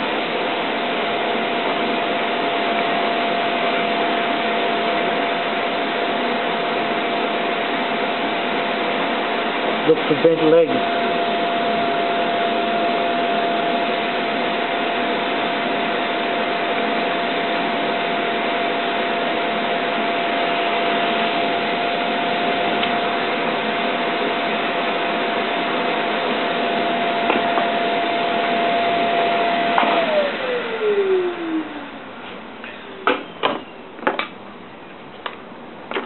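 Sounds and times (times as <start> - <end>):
vacuum motor whine: 0.0 - 34.1.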